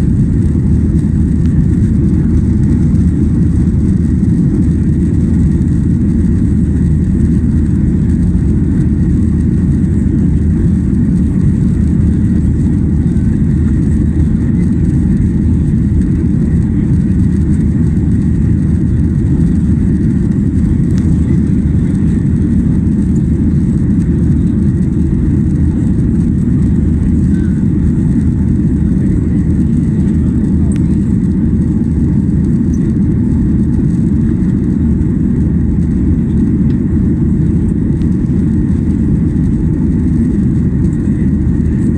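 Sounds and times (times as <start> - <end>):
airplane cabin jet engine rumble: 0.0 - 41.9.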